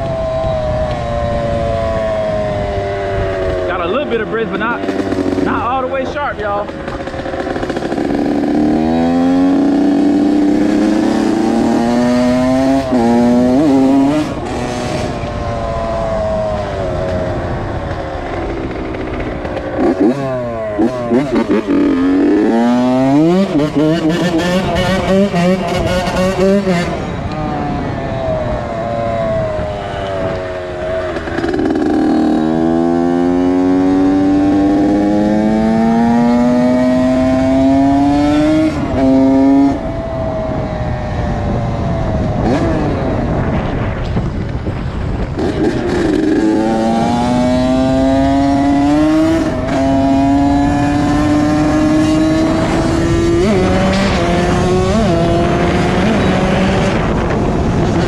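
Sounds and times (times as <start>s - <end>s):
two-stroke motorbike engine revving: 0.0s - 58.0s.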